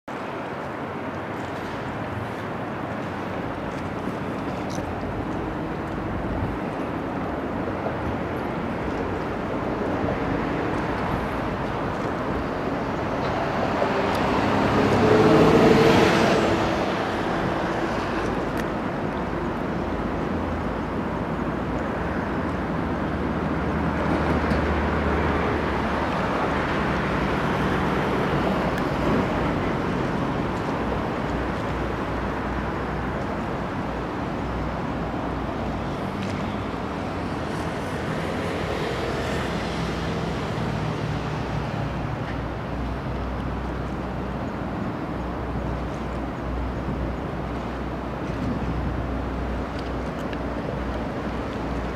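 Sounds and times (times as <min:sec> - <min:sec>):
city traffic rumble: 0:00.1 - 0:51.9.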